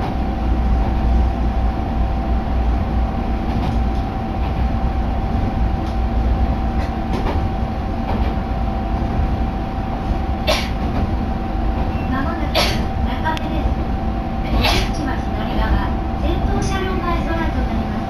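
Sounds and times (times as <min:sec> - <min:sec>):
railcar engine rumble: 0:00.0 - 0:18.0.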